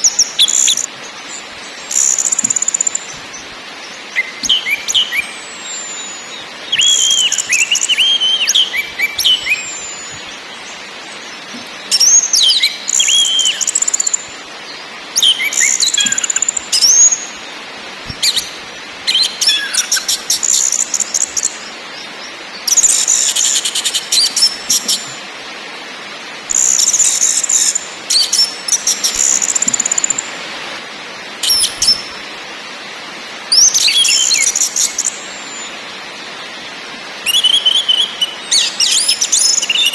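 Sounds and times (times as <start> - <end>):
faint hiss: 0.0 - 39.9.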